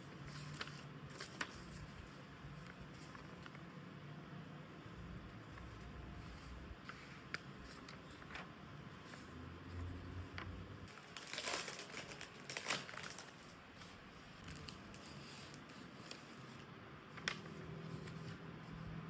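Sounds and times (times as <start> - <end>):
paper crinkling and rustling: 0.0 - 3.7, 5.5 - 18.9.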